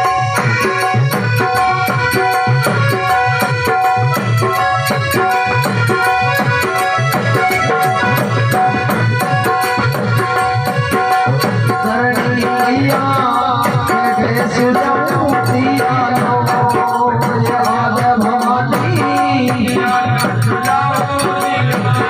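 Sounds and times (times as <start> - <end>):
hand drum beat: 0.0 - 22.0
held chords: 0.0 - 22.0
rattling percussion: 0.0 - 22.0
wavering melody line: 0.0 - 22.0.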